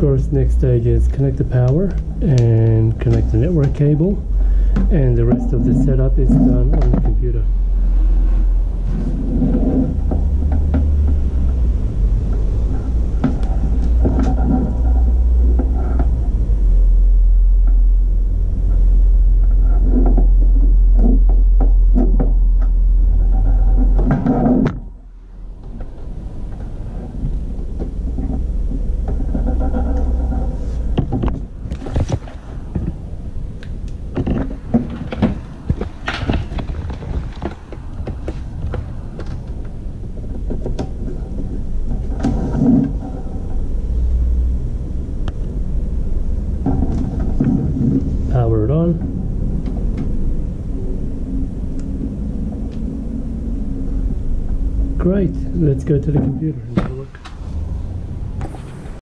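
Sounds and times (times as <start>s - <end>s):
low rumble: 0.0s - 59.0s.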